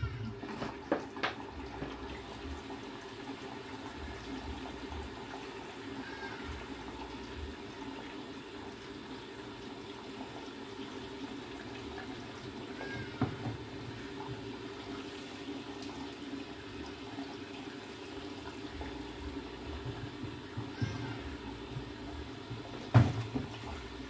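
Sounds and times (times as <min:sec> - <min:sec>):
water rushing into washing machine: 0:00.0 - 0:24.0.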